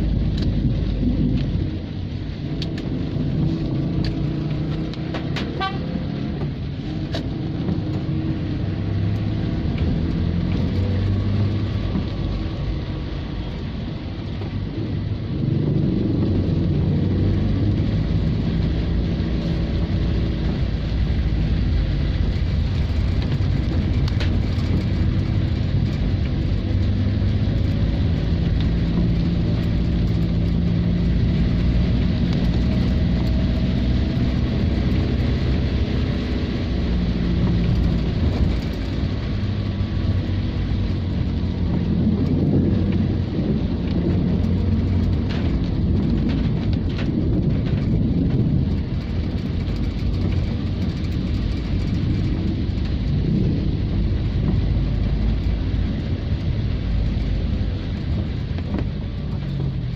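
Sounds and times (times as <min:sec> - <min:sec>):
car engine: 0:00.0 - 0:59.9
rain on car: 0:00.0 - 0:59.9
road noise inside car cabin: 0:00.0 - 0:59.9.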